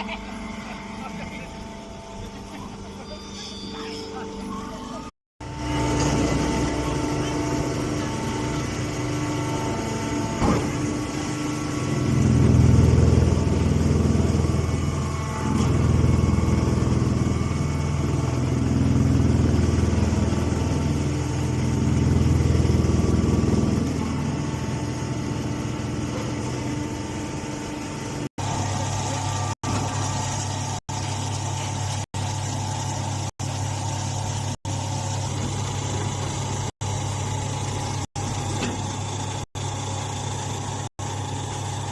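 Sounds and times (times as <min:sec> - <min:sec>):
hay baler motor hum: 0:00.0 - 0:41.9.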